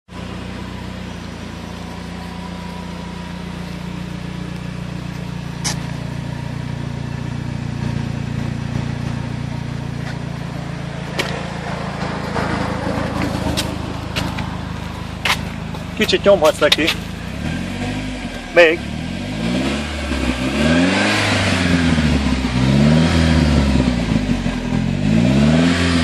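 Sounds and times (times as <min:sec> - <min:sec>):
car exhaust idling: 0:00.1 - 0:26.0.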